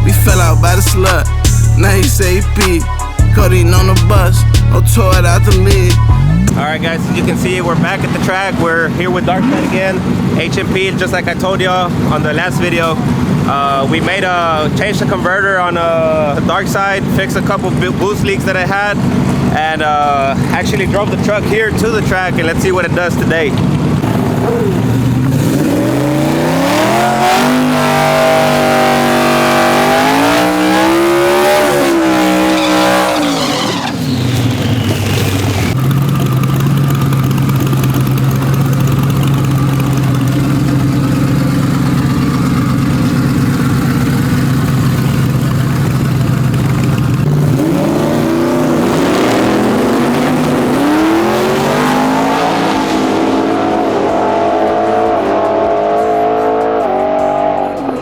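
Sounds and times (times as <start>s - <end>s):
race engine revving: 0.0s - 58.0s.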